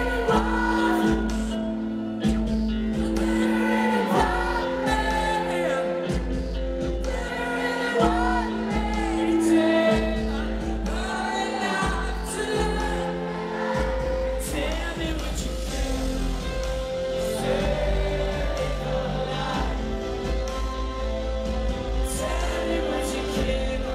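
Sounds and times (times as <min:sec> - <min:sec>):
live rock band playing slow song: 0:00.0 - 0:23.9
person singing: 0:00.0 - 0:23.9.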